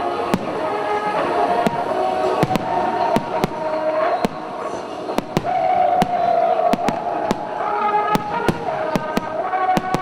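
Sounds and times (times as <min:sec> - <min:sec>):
fireworks banging: 0:00.0 - 0:10.0.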